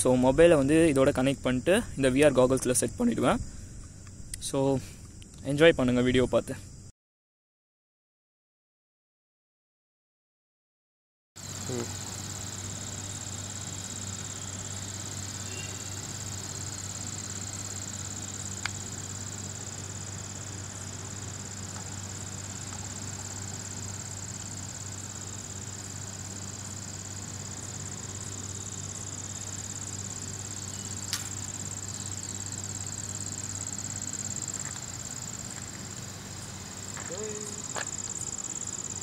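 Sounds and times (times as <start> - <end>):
insects chirring: 0.0 - 6.9, 11.4 - 39.0.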